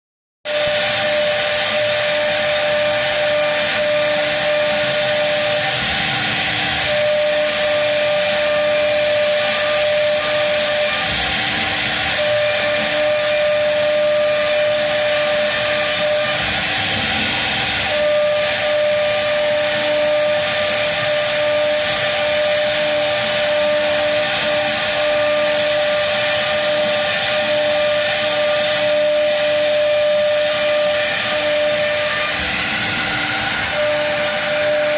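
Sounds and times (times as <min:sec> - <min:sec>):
router spindle whining: 0:00.5 - 0:34.9.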